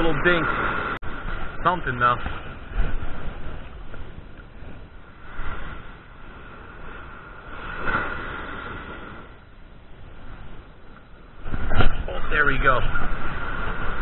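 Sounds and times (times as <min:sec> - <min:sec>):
surf washing up a beach: 0:00.0 - 0:14.0
wind on microphone: 0:00.0 - 0:14.0.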